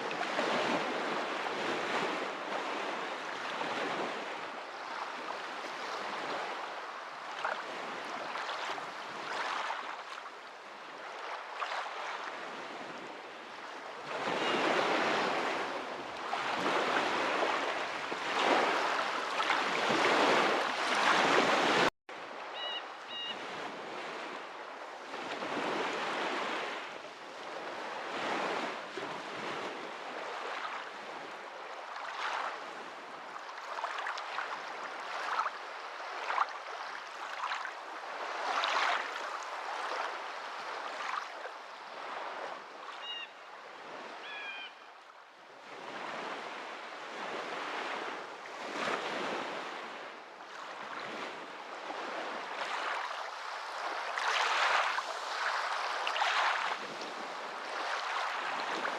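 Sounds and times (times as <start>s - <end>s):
waves washing in: 0.0s - 43.1s, 45.6s - 58.9s.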